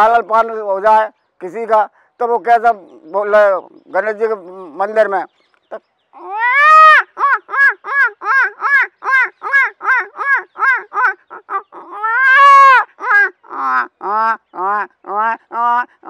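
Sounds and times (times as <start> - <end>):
man imitating peacock calls: 0.0 - 16.0.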